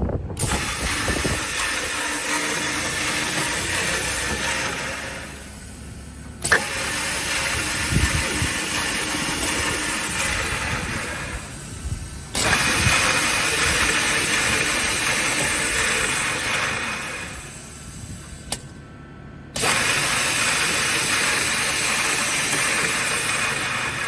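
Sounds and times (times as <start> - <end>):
boring machine running: 0.2 - 24.0.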